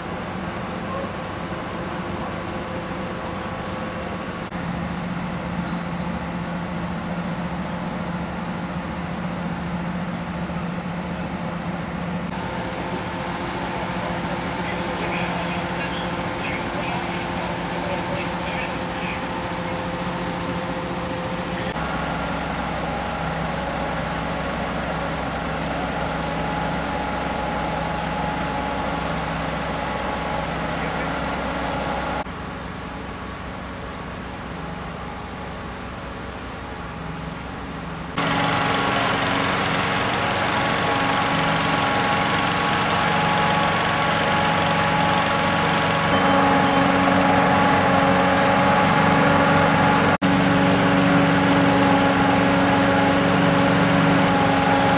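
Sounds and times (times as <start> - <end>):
fire engines idling: 0.0 - 54.9.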